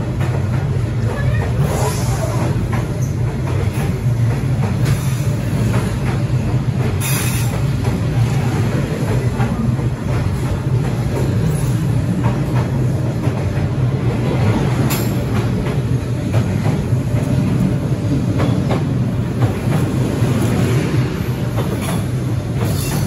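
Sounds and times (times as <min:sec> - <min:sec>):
train carriages rumbling past: 0:00.0 - 0:23.0
wheels clacking on track: 0:00.0 - 0:23.0.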